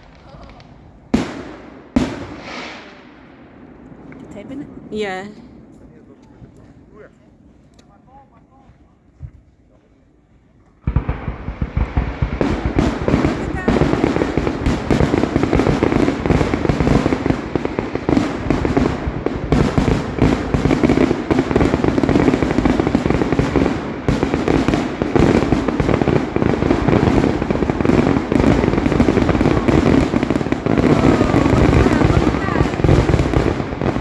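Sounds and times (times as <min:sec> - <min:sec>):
fireworks bangs: 0:00.0 - 0:09.4, 0:10.7 - 0:34.0.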